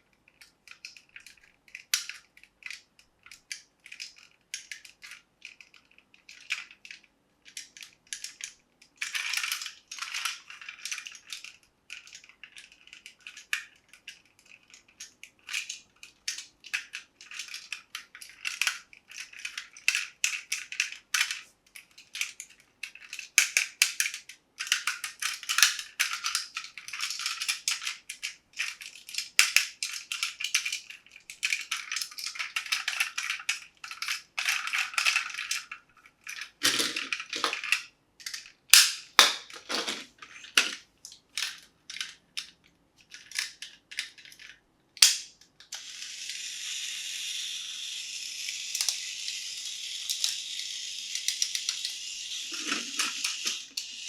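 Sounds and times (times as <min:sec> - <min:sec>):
hard plastic crinkling and clicking: 0:00.2 - 0:45.8, 0:51.2 - 0:54.0.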